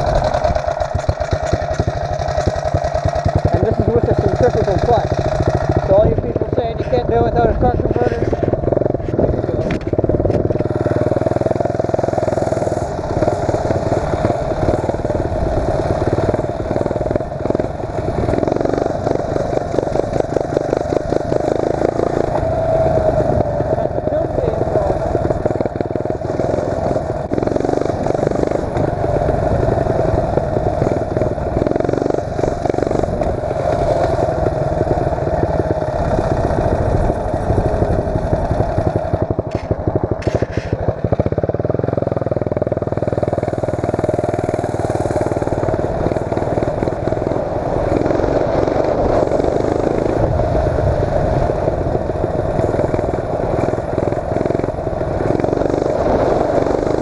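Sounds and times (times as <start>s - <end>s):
mini bike engine revving: 0.0s - 57.0s.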